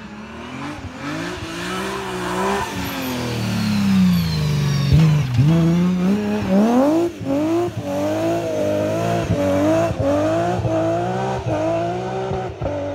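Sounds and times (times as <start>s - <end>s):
car engine at full throttle: 0.0s - 12.9s.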